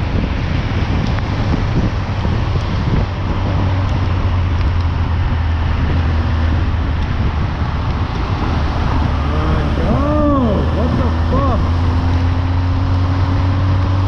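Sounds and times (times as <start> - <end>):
motorcycle engine running: 0.0 - 14.0
road noise: 0.0 - 14.0
wind noise: 0.0 - 14.0.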